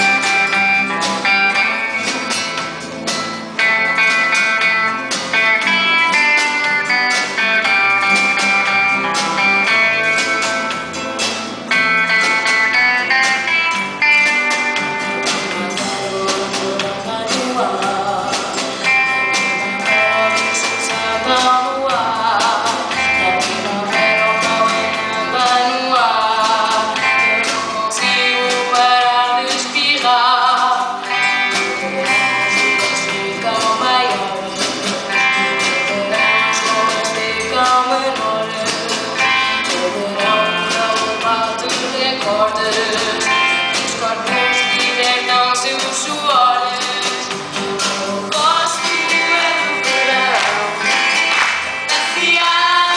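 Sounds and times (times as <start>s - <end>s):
person singing with vibrato: 0.0s - 11.1s, 11.7s - 52.9s
guitar plucking a melody: 0.0s - 52.9s.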